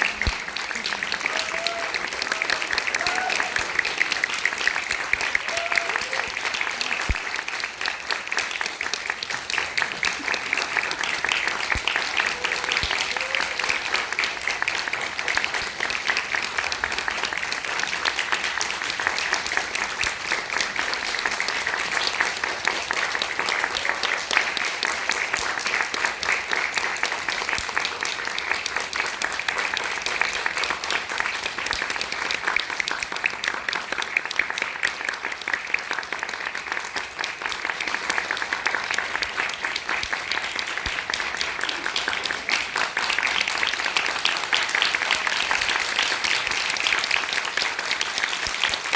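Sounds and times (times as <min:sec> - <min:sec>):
audience applauding: 0:00.0 - 0:48.9.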